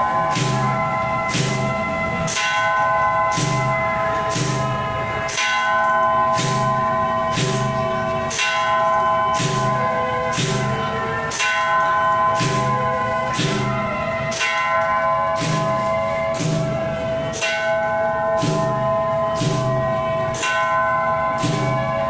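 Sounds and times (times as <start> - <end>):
cymbal crashes: 0.0 - 22.0
low drum strokes: 0.0 - 22.0
ringing gong tones: 0.0 - 22.0.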